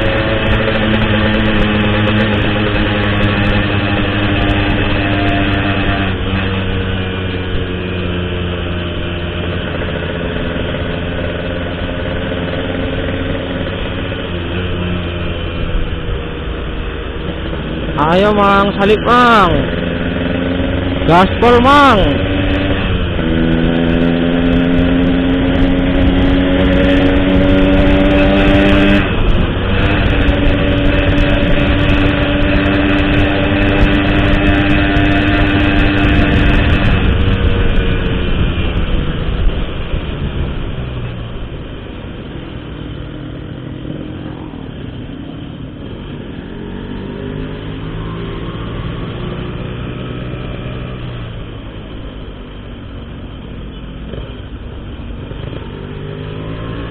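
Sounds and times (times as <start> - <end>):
motorcycle accelerating hard: 0.0 - 56.9.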